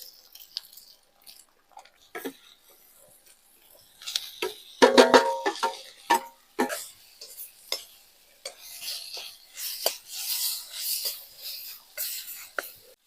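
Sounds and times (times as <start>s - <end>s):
vegetables being stirred: 0.0s - 13.0s.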